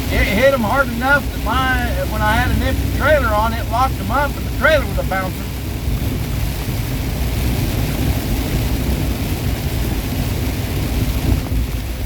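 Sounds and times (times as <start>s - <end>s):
road and tyre hiss: 0.0s - 12.0s
truck engine rumble: 0.0s - 12.0s.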